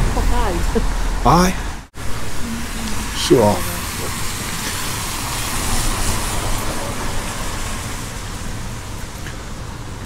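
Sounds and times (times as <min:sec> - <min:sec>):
rain: 0:00.0 - 0:10.0
tyres on wet road: 0:00.0 - 0:10.0.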